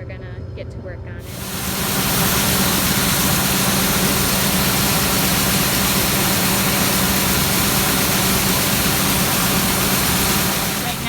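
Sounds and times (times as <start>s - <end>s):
diesel engine running: 1.2s - 11.0s.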